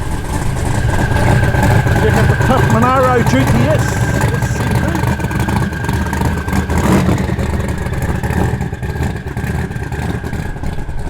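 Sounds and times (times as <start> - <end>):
car engine rumbling past: 0.0 - 11.0.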